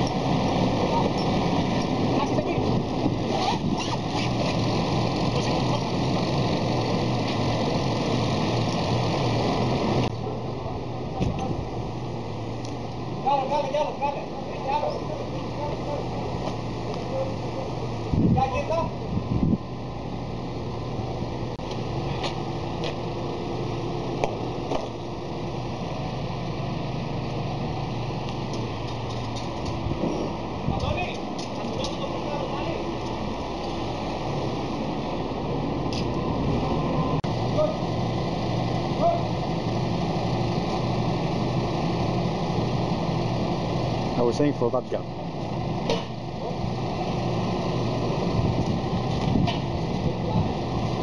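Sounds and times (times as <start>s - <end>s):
crane engine running: 0.0s - 51.0s.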